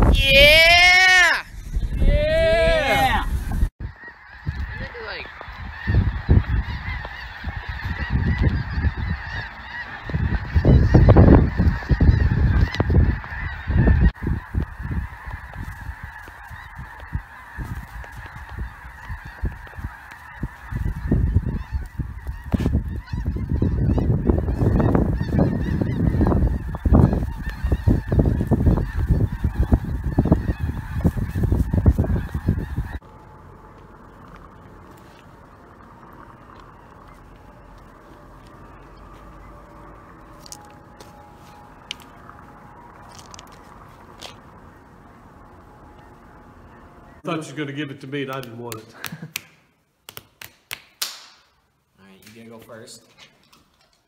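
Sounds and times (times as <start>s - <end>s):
geese honking: 0.1s - 48.8s.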